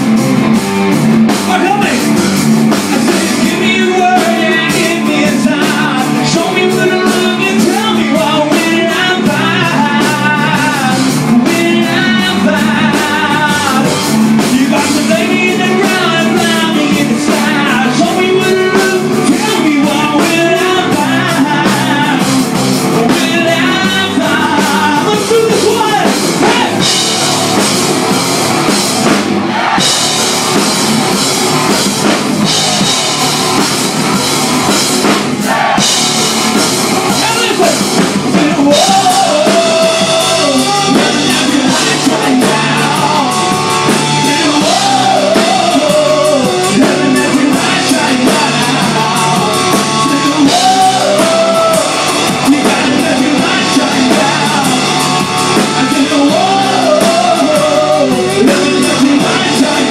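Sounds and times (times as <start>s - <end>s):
lead singer: 0.0s - 59.9s
live rock band: 0.0s - 59.9s.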